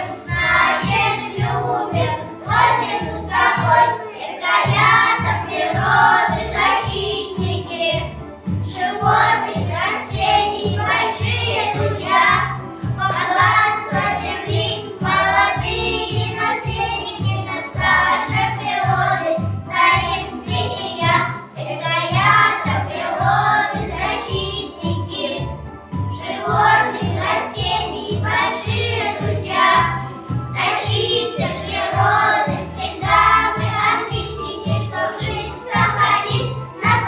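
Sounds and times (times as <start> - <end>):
children singing: 0.0 - 25.6, 26.2 - 37.0.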